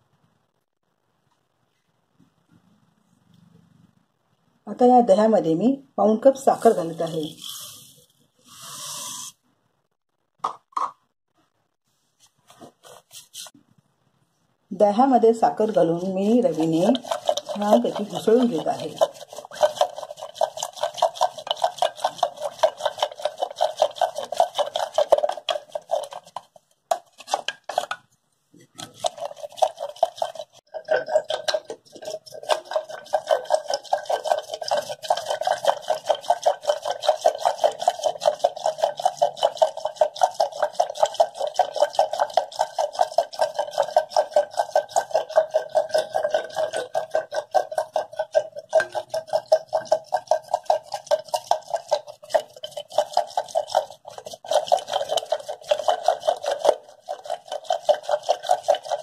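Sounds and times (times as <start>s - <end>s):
wooden churner swishing in steel pot: 6.2s - 9.4s, 11.9s - 13.6s, 14.9s - 59.0s.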